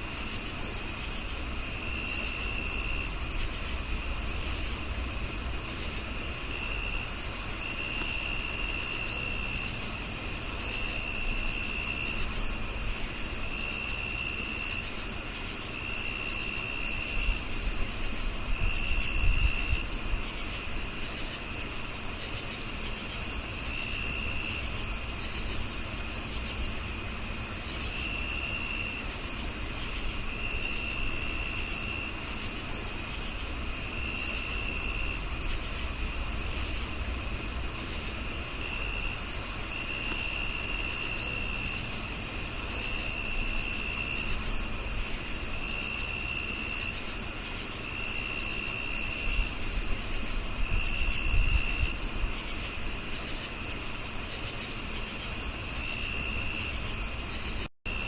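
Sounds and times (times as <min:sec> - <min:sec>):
cricket chirping: 0:00.0 - 0:58.0
high cricket trill: 0:00.0 - 0:58.0
lower cricket trill: 0:00.0 - 0:58.0.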